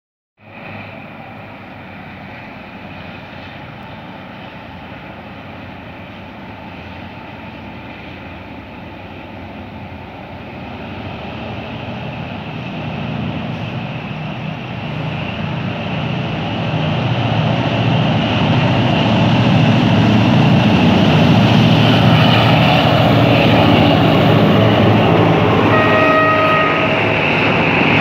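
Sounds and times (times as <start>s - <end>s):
diesel locomotive engine drone: 0.4s - 28.0s.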